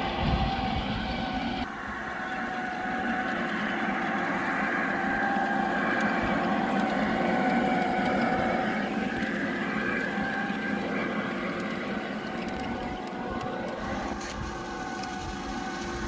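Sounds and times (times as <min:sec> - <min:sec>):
model locomotive motor whine: 0:00.0 - 0:16.0
wheels rumbling on track: 0:00.0 - 0:16.0.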